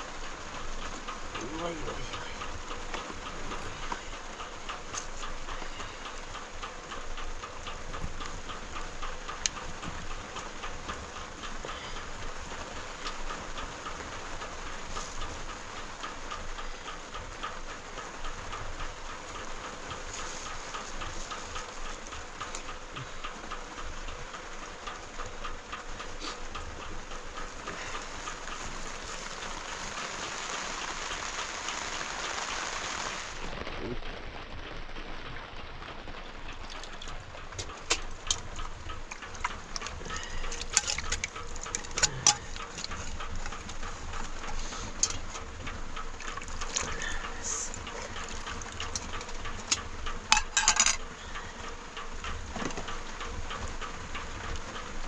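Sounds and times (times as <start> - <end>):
fast regular ticking: 0.0 - 55.0
steady rain: 0.0 - 55.0.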